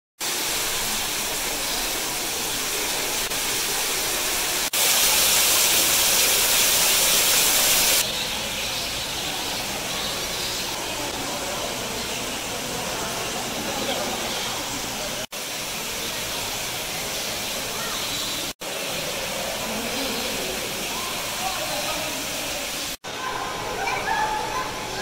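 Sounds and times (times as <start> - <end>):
indoor waterfall splashing: 0.2 - 25.0.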